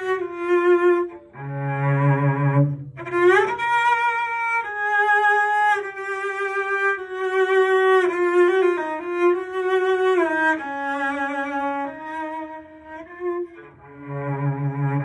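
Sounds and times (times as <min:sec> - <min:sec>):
solo cello melody: 0:00.0 - 0:15.0.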